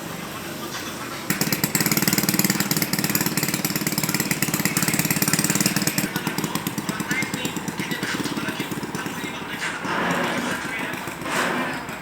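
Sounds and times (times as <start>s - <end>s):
diesel engine clattering: 0.1s - 12.0s.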